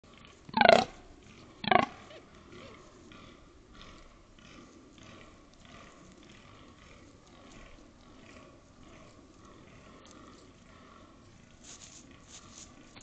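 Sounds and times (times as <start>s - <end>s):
deer grunting: 0.1s - 13.0s.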